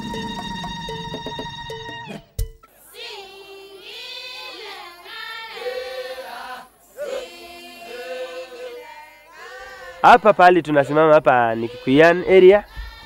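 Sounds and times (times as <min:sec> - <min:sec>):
choir singing long notes: 0:00.0 - 0:02.1, 0:02.7 - 0:13.0.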